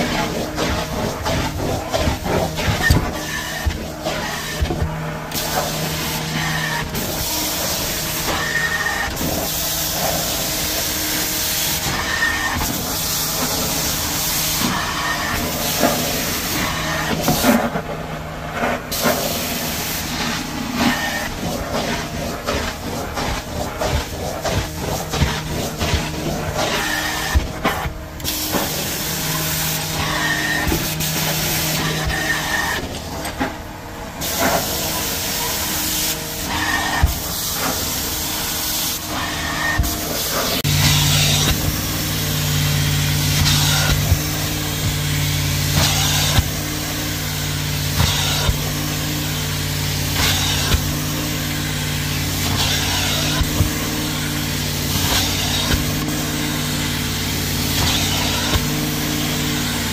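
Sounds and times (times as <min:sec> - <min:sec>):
carpet cleaning tool hissing: 0:00.0 - 0:59.9
extraction machine hum: 0:00.0 - 0:59.9.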